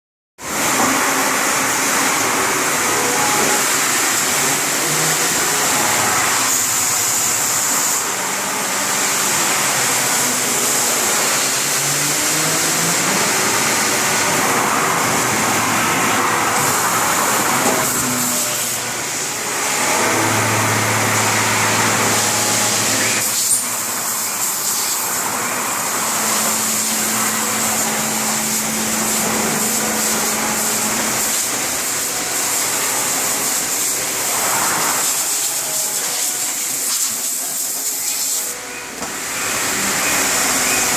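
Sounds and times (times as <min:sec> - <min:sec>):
machine spindle whirring: 0:00.4 - 0:40.9
motor tones changing pitch: 0:00.4 - 0:40.9.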